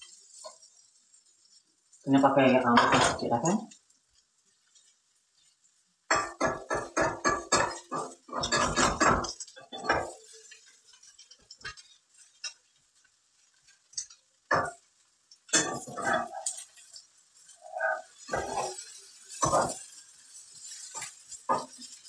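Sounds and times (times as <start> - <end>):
spatula scraping frying pan: 0.0 - 22.0.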